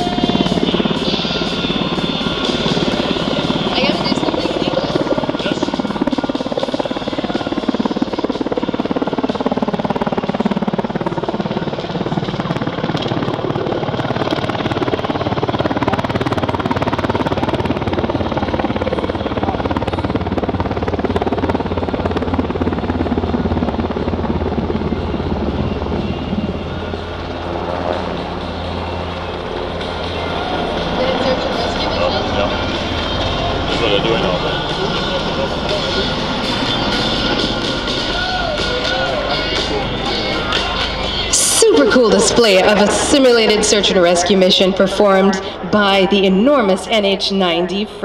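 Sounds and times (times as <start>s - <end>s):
helicopter flying by: 0.0s - 48.0s.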